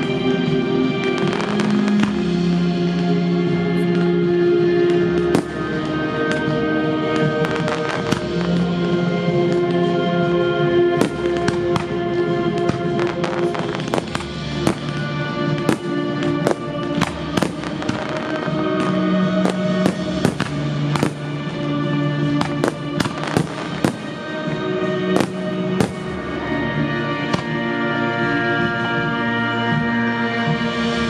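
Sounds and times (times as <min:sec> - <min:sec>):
fireworks bursting with sharp bangs: 0:00.0 - 0:30.0
loud music: 0:00.0 - 0:31.0.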